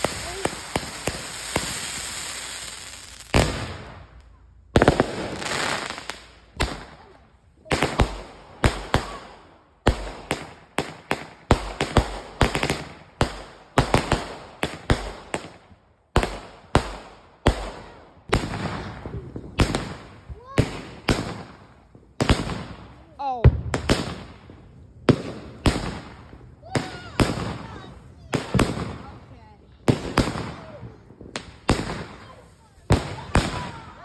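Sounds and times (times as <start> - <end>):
crackling hiss of fireworks: 0.0 - 34.0
fireworks banging: 0.0 - 34.0.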